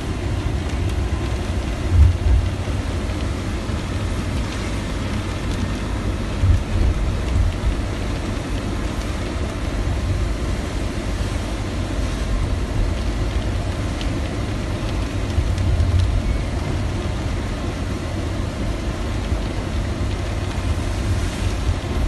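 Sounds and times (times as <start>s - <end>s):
low wind rumble: 0.0s - 22.0s
rain on car windshield and roof: 0.0s - 22.0s.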